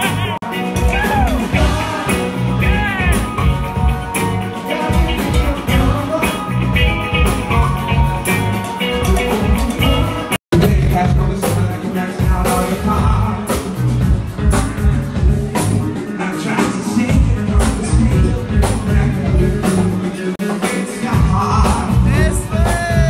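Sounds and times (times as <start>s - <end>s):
electric guitar: 0.0s - 23.0s
live band playing: 0.0s - 23.0s
person singing: 0.0s - 23.0s
steady drum beat: 0.0s - 23.0s.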